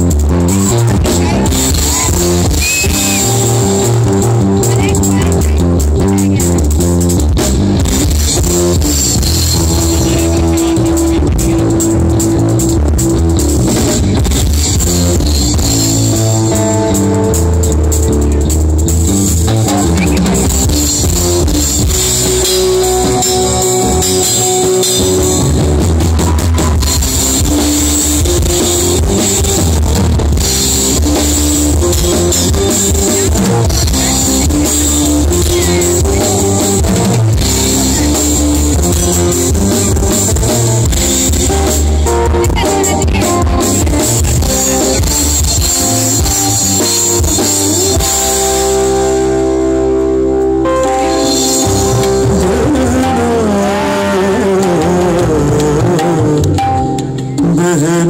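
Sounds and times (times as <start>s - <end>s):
bass guitar: 0.0s - 58.0s
drum kit beat: 0.0s - 58.0s
guitar: 0.0s - 58.0s.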